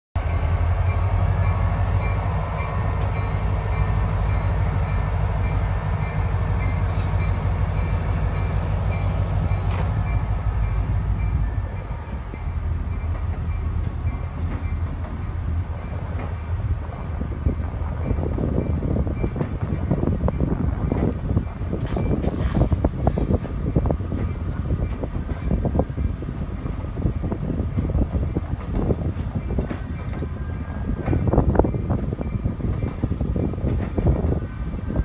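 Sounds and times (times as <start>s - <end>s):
train rumbling past: 0.2s - 35.0s.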